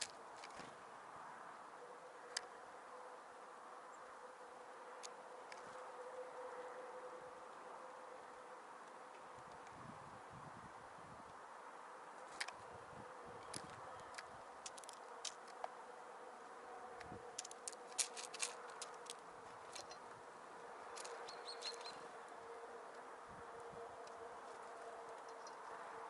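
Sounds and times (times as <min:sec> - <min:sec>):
songbirds chirping: 0:00.0 - 0:09.8, 0:11.8 - 0:26.0.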